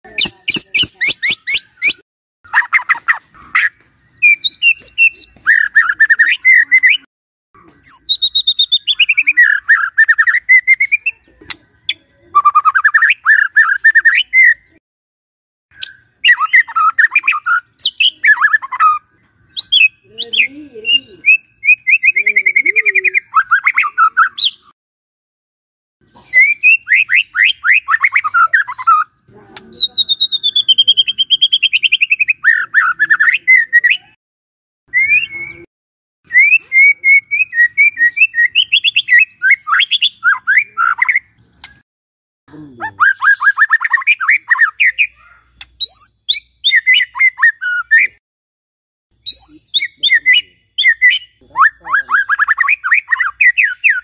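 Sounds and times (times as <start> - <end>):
songbird singing trills: 0.1 - 14.8, 15.7 - 24.7, 26.2 - 34.2, 36.3 - 41.8, 42.5 - 48.2, 49.2 - 54.0.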